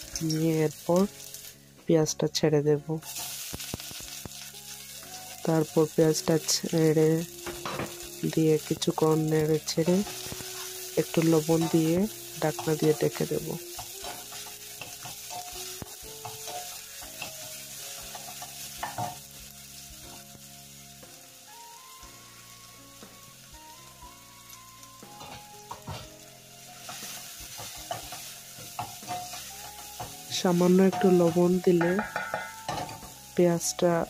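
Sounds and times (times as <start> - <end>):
onion and garlic sizzling in oil: 0.0 - 34.0.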